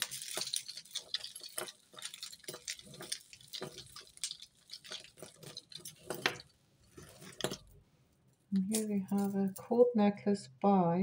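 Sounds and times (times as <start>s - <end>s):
metal jewellery clinking: 0.0s - 9.8s.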